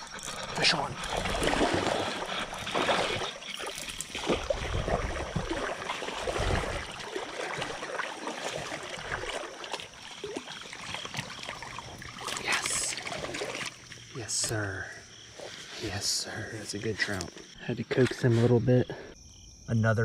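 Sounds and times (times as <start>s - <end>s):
water splashing and sloshing: 0.0s - 18.6s.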